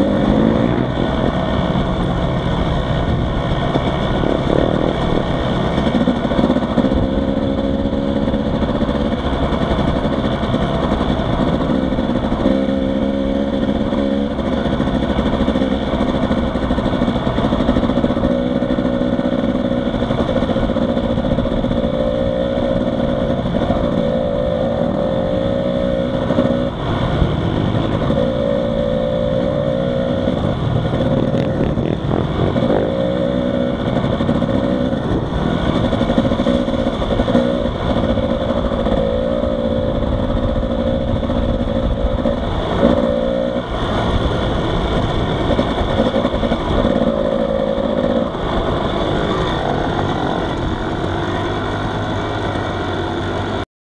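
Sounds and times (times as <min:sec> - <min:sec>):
wind noise: 0:00.0 - 0:52.1
dirt bike engine revving: 0:00.0 - 0:53.6.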